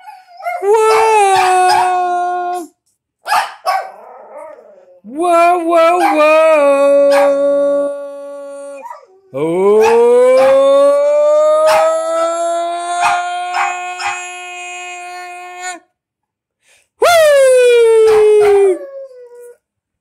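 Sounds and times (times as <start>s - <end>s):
small dog howling: 0.0s - 2.7s, 3.8s - 15.8s, 17.3s - 19.6s.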